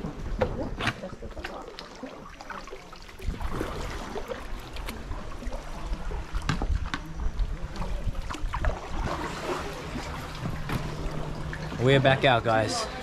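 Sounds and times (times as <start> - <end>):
water splashing and dripping: 0.2 - 13.0.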